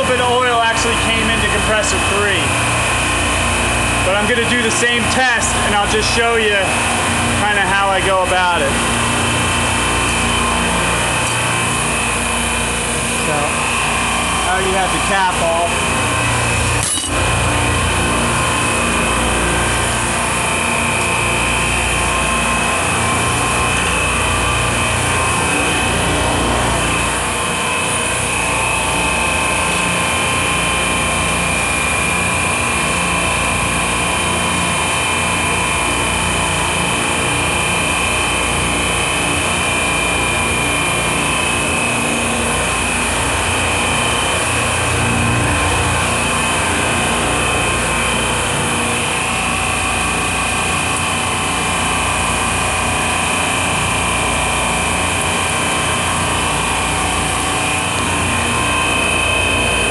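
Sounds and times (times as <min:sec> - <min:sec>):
constant high whine: 0:00.0 - 0:59.9
refrigeration compressors droning: 0:00.0 - 0:59.9.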